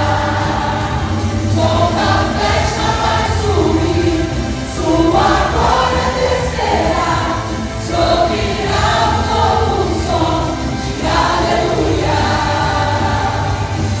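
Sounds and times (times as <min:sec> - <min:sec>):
choir singing gospel: 0:00.0 - 0:14.0
instrumental backing with bass: 0:00.0 - 0:14.0.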